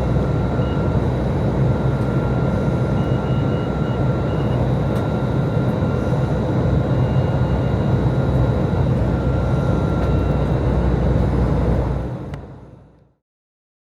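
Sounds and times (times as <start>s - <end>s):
thin steady whine: 0.0s - 12.0s
low engine drone: 0.0s - 13.2s.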